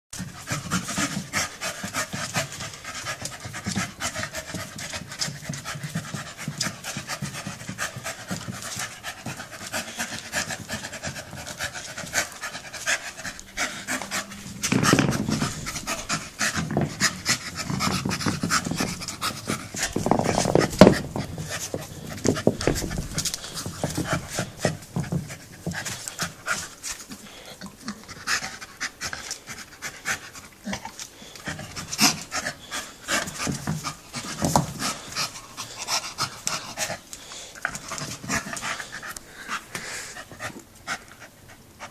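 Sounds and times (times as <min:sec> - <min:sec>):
dog panting hard: 0:00.2 - 0:41.9.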